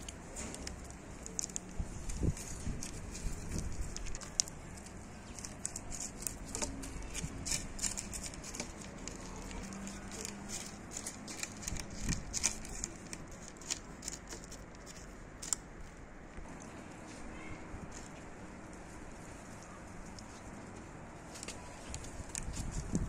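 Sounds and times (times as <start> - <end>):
kitten chewing and lapping: 0.0 - 16.9, 17.9 - 23.0.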